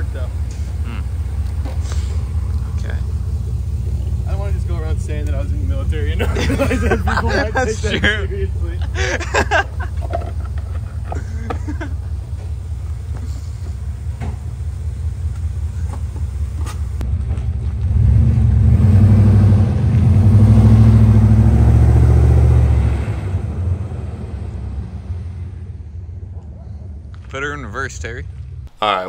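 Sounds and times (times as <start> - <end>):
pickup truck engine rumbling: 0.0 - 29.0.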